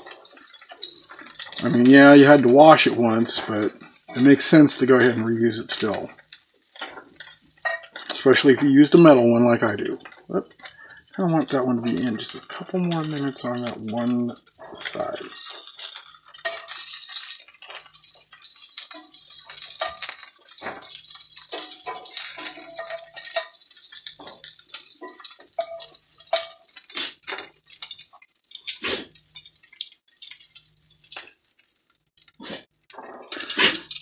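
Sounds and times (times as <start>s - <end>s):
meatballs sizzling in hot fat: 0.0s - 34.0s
metal tongs clinking on pan: 0.0s - 34.0s.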